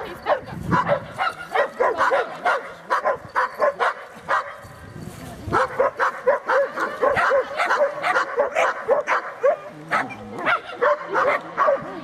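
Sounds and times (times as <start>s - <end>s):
dog barking in high yelps: 0.2s - 4.6s, 5.5s - 12.0s.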